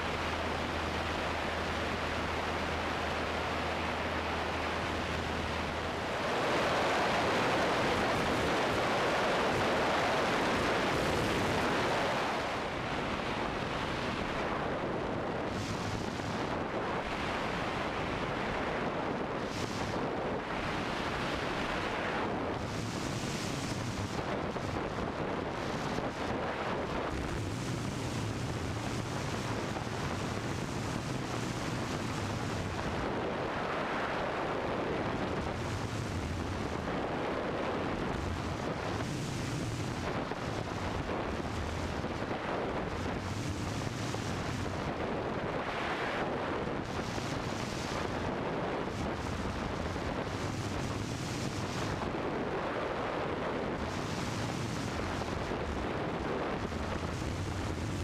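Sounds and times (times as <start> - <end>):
airplane engine and propeller: 0.0 - 58.0
wind noise on microphone: 0.0 - 58.0.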